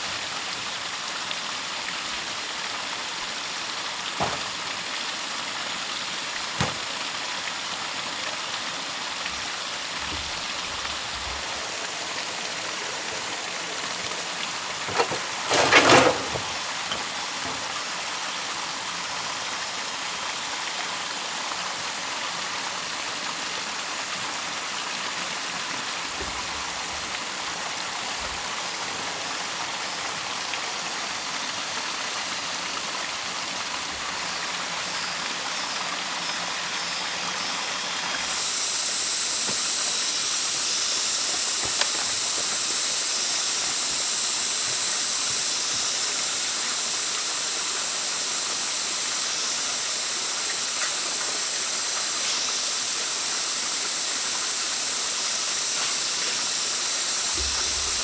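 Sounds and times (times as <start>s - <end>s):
high-pitched hiss: 0.0s - 58.0s
steady hissing noise: 0.0s - 58.0s.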